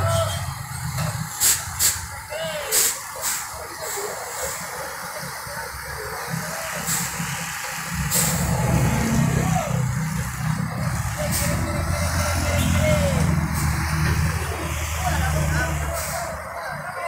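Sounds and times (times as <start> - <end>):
diesel truck engine rumbling: 0.0 - 17.0
air hisses: 1.2 - 5.5, 6.1 - 16.4.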